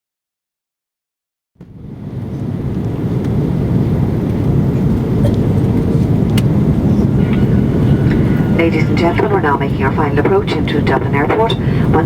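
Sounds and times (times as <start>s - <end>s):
airplane cabin engine roar: 1.6s - 12.0s.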